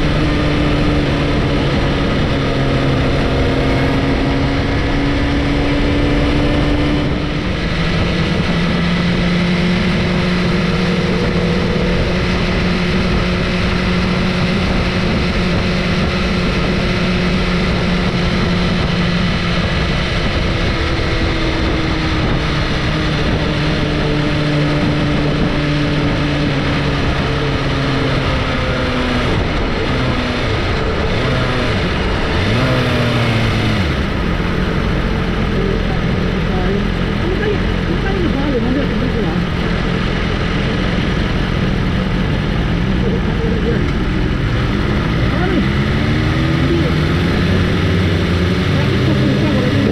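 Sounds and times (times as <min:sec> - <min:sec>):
loud rush of noise: 0:00.0 - 0:49.9
motorcycle engine cruising: 0:00.0 - 0:49.9.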